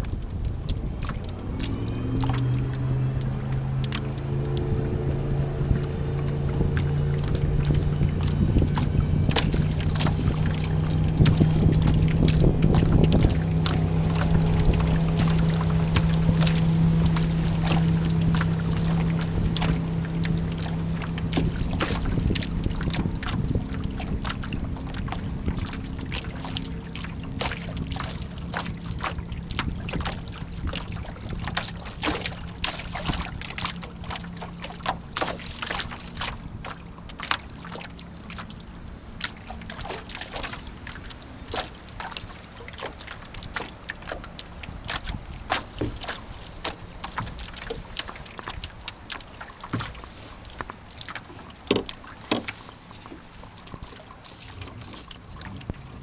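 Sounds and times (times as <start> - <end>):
low steady hum: 0.0 - 56.0
water splashing against hull: 0.0 - 56.0.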